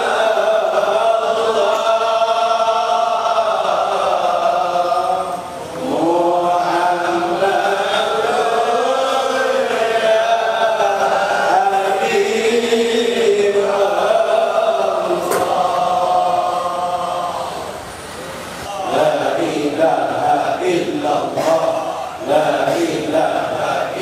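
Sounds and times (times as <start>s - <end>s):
men chanting together: 0.0s - 17.8s, 18.7s - 24.0s.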